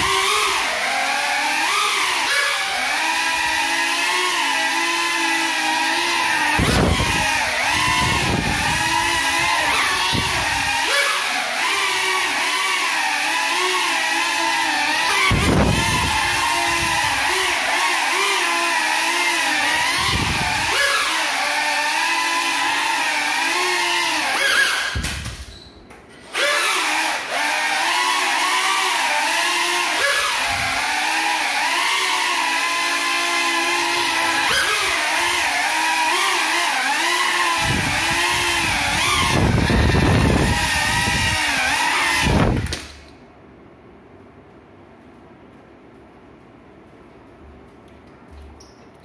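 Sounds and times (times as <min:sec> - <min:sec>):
quadcopter motors whining: 0:00.0 - 0:25.6, 0:26.2 - 0:43.1.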